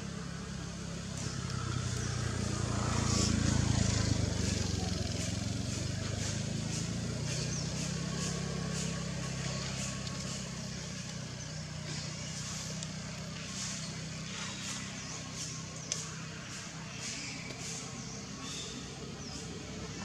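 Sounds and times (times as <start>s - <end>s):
engine running low drone: 0.0s - 20.0s.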